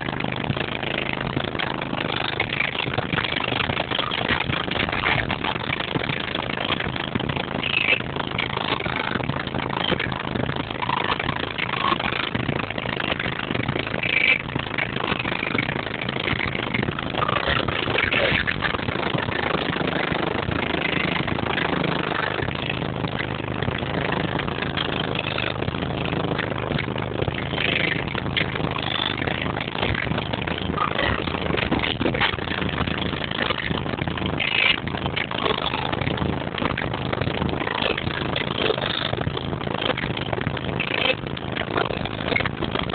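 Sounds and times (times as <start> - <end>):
vehicle engine at low revs: 0.0 - 42.9.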